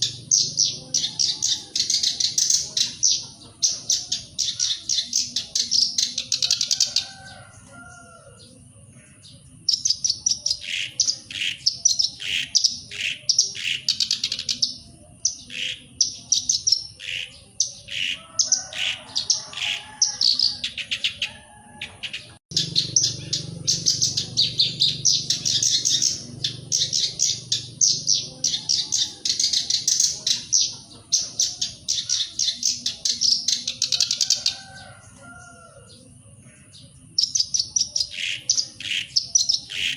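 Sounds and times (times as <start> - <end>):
warbler singing scratchy chatter: 0.0 - 39.9.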